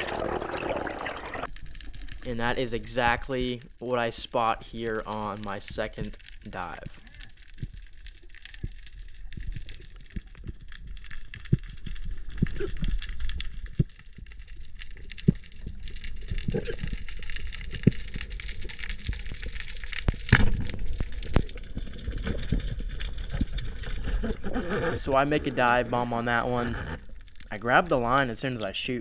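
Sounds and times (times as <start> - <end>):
fine underwater crackle: 0.0 - 29.0.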